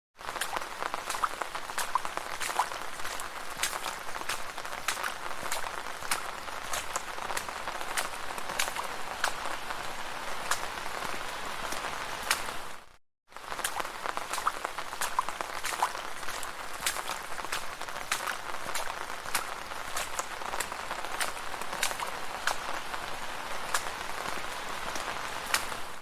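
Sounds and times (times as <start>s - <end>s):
rain hissing on street: 0.2s - 26.0s
raindrop splashes: 0.2s - 26.0s.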